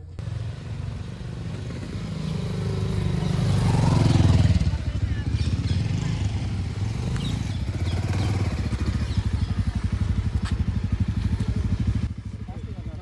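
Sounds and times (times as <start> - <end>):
motorcycle engines pulsing: 0.0 - 13.0.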